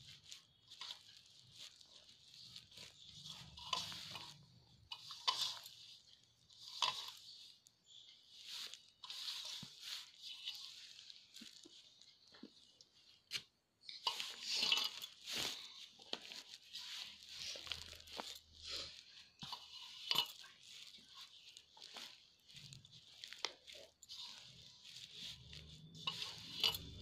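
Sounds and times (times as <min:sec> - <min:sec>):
hands kneading crumbly dough: 0:00.0 - 0:27.0.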